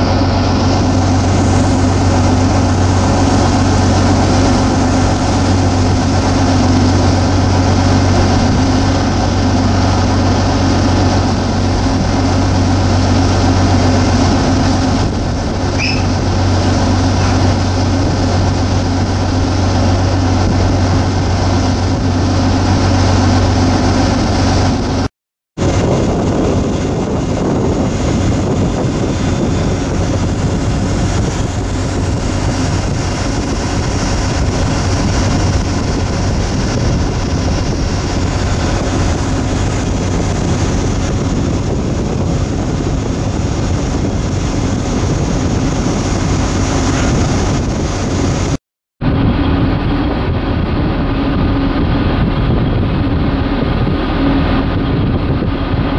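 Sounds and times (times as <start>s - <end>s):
boat engine humming: 0.0s - 55.9s
water rushing along hull: 0.0s - 55.9s
wind on microphone: 0.0s - 55.9s.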